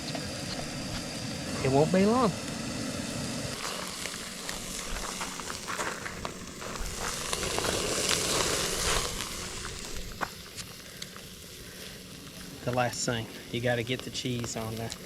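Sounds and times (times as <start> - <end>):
crackles and pops: 0.0 - 15.0
patties sizzling on a grill: 0.0 - 15.0.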